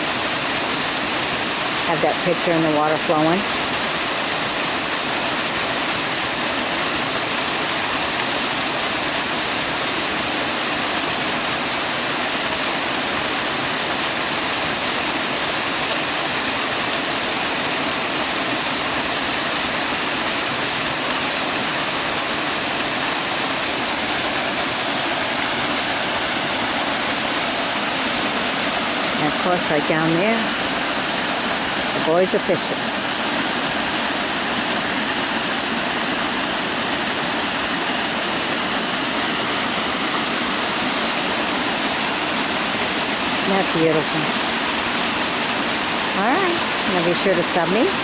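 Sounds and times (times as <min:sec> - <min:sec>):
waterfall splashing into pool: 0:00.0 - 0:48.0.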